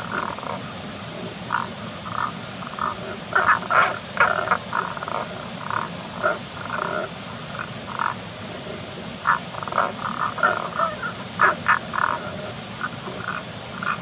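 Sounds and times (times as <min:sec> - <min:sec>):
frogs croaking: 0:00.0 - 0:14.0
steady hiss: 0:00.0 - 0:14.0.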